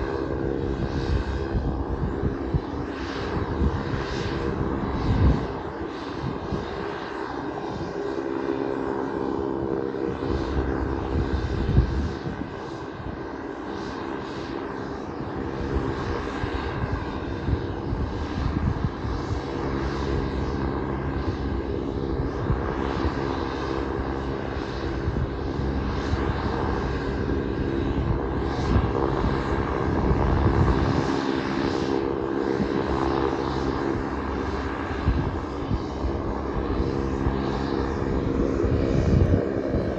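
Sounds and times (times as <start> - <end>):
high turbine whine: 0.0 - 39.9
propeller drone: 0.0 - 39.9.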